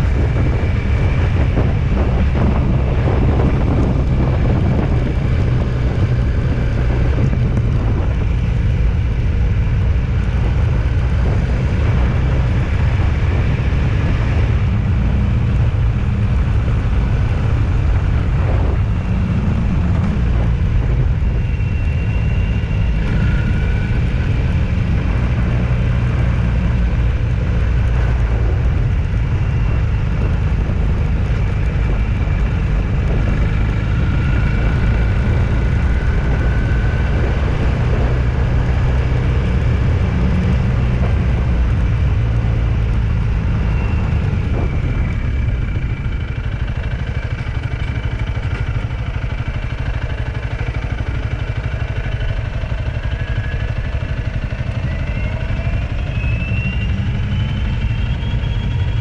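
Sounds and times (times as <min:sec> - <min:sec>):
vehicle rumble with road noise: 0:00.0 - 0:59.0.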